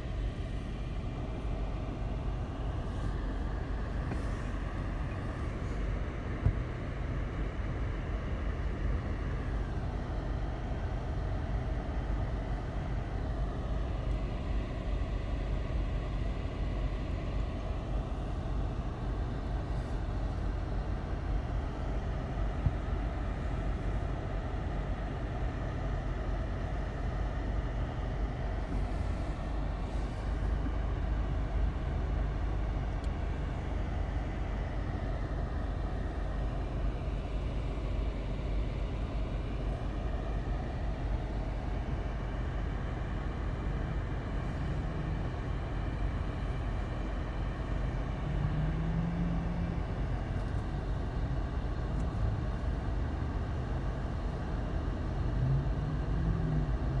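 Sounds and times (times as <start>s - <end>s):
road traffic rumble: 0.0s - 57.0s
passing vehicle engine hum: 9.1s - 57.0s.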